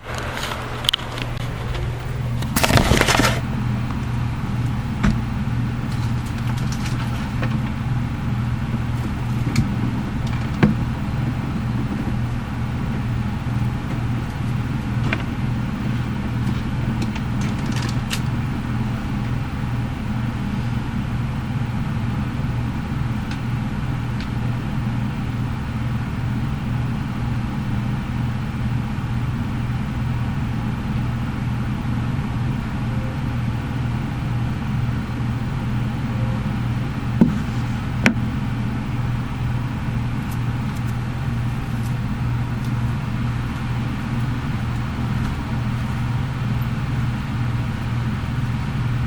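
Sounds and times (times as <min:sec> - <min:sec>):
low droning hum: 0:00.0 - 0:49.0.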